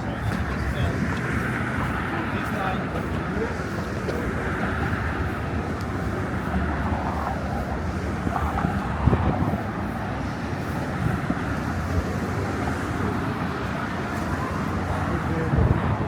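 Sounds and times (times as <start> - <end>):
passing cars: 0.0 - 16.0.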